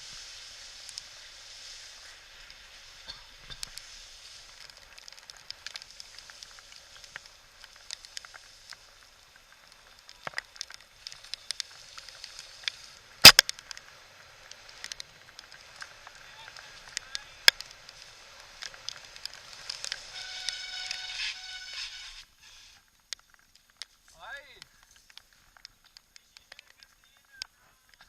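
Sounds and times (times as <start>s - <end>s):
heavy rain hissing: 0.0s - 23.0s
raindrops ticking on camera housing: 0.0s - 28.0s.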